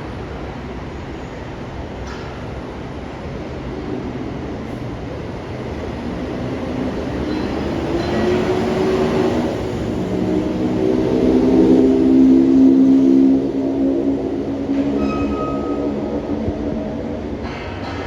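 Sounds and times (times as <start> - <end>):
monorail train running past: 0.0 - 18.0.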